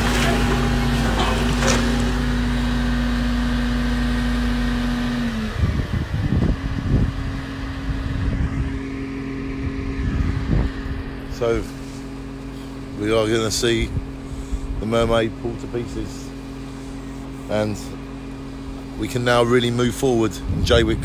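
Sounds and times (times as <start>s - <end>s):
excavator diesel engine running: 0.0s - 20.2s.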